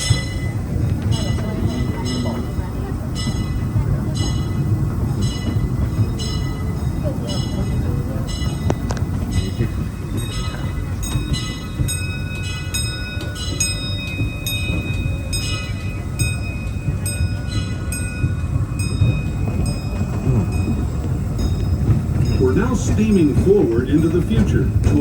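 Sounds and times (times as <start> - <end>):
steam train rumbling on track: 0.0 - 25.0.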